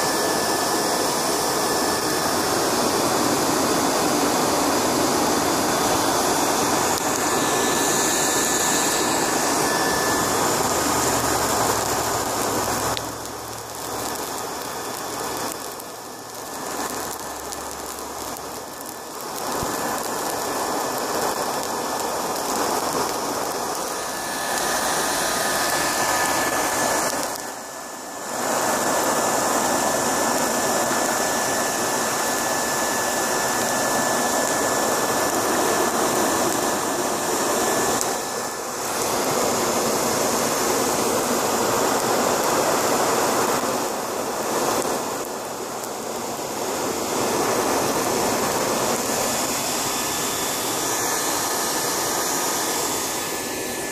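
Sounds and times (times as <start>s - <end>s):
hair dryer motor whine: 0.0s - 53.9s
rush of blown air and fire: 0.0s - 53.9s.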